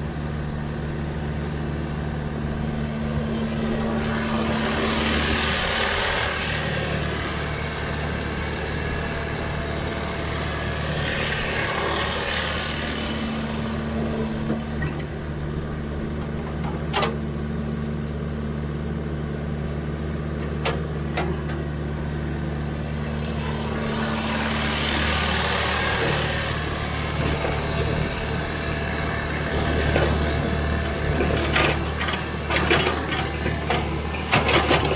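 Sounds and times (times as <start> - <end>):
excavator diesel engine digging: 0.0 - 34.9.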